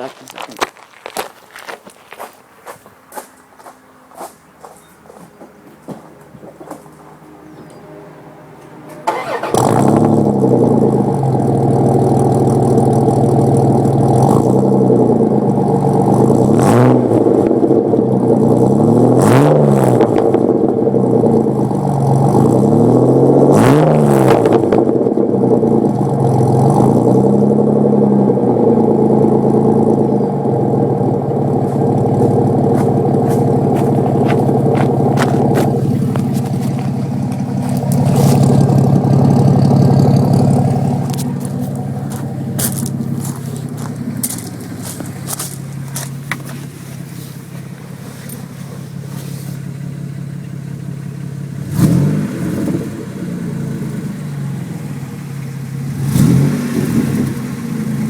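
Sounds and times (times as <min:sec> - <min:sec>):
truck engine starting and revving: 0:06.1 - 0:58.0.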